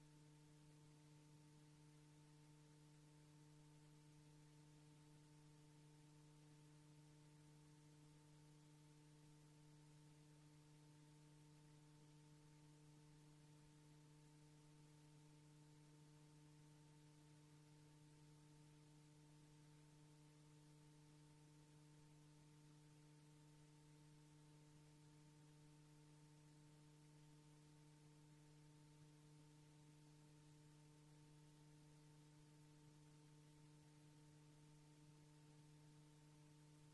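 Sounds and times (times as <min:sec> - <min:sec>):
faint electrical hum: 0:00.0 - 0:36.9
tape hiss: 0:00.0 - 0:36.9.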